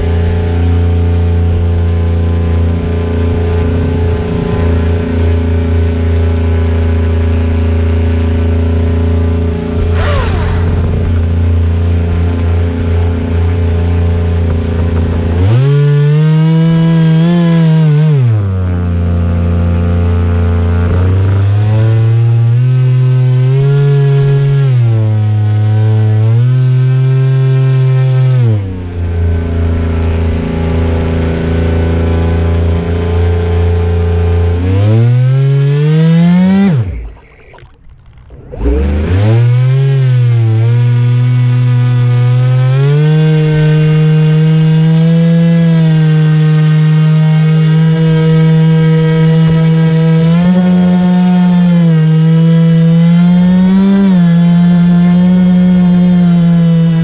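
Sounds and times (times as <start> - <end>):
rc boat motor running: 0.0 - 57.0.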